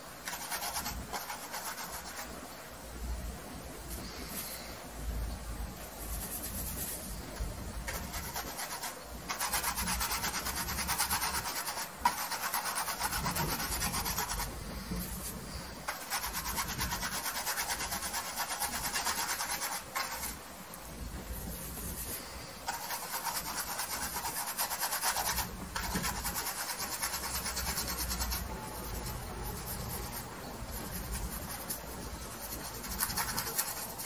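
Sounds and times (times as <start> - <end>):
paintbrush scrubbing on canvas: 0.2 - 2.4, 5.9 - 20.4, 21.3 - 34.0.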